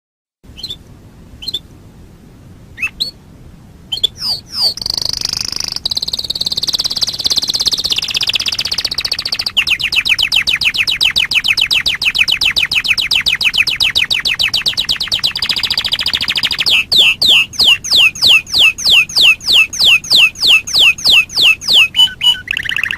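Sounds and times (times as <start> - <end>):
canary singing: 0.5 - 1.7, 2.8 - 3.2, 3.9 - 22.9.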